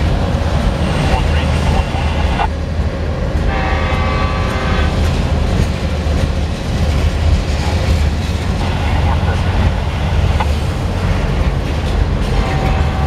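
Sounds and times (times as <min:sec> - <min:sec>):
freight train wheels rumbling on rail: 0:00.0 - 0:13.0.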